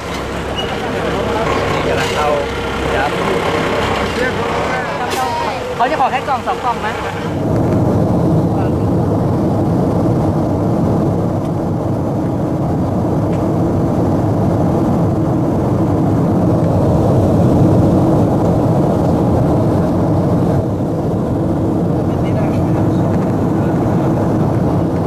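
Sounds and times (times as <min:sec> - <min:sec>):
airliner cabin engine noise: 0:00.0 - 0:25.0.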